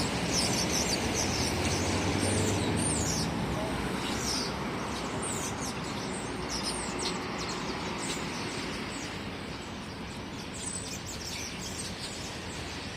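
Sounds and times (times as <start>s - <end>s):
small birds chirping: 0.0s - 12.9s
steady background noise: 0.0s - 12.9s.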